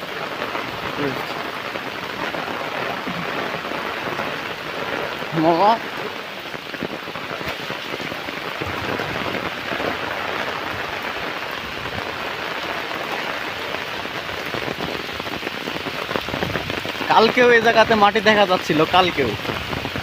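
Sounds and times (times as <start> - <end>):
steady rain patter: 0.0 - 20.0.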